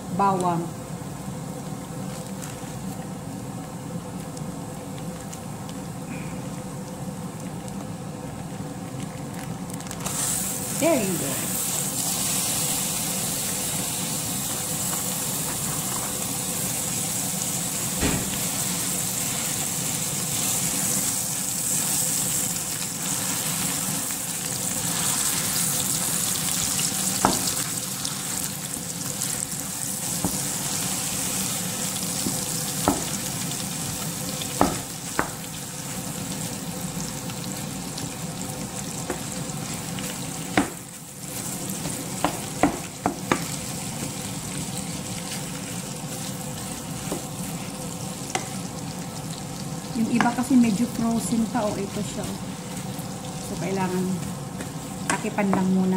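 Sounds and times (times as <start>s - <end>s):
meat sizzling in a frying pan: 9.0s - 55.9s.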